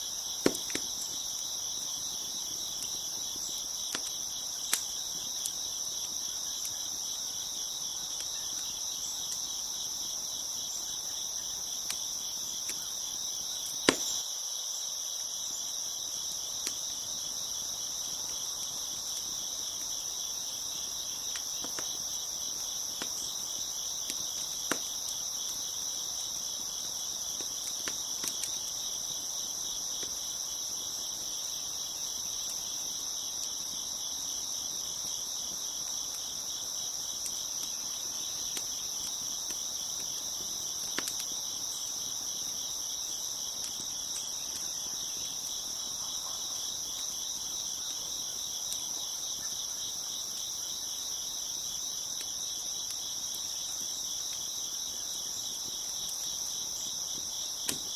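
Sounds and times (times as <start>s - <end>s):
crickets chirping: 0.0s - 57.9s
wood fire crackles: 0.0s - 57.9s.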